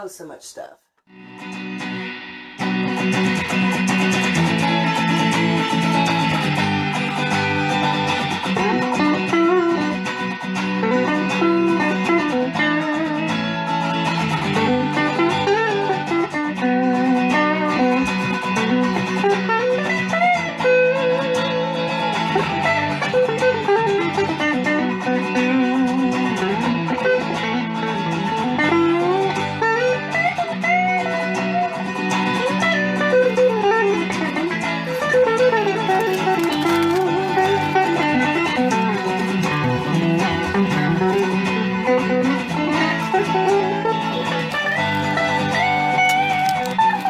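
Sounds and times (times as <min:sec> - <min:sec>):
guitar background music: 0:01.1 - 0:47.0.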